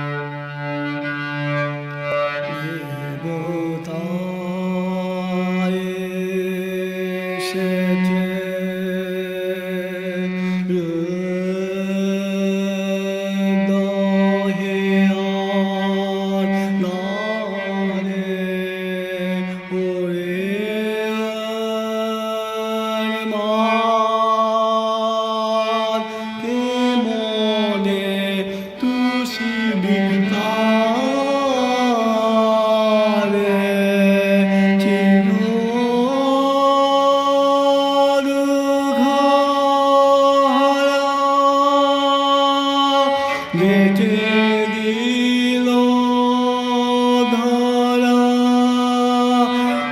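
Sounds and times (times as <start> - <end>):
bowed cello playing: 0.0 - 49.9.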